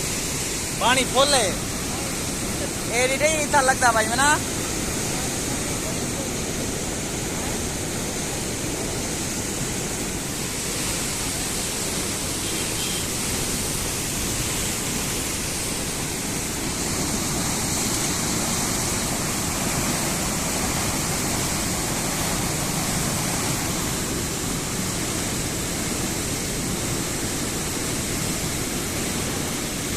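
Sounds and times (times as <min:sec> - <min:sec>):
floodwater rushing: 0:00.0 - 0:29.9.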